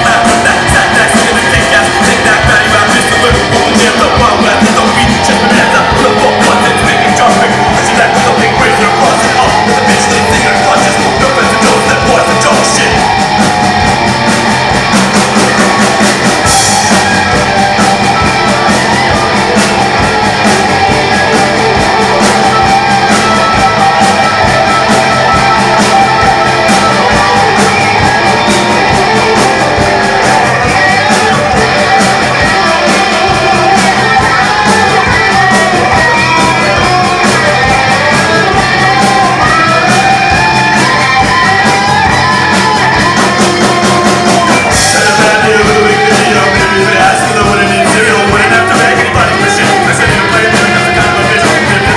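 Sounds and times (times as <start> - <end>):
bass guitar: 0.0 - 51.9
drum kit: 0.0 - 51.9
electric guitars: 0.0 - 51.9.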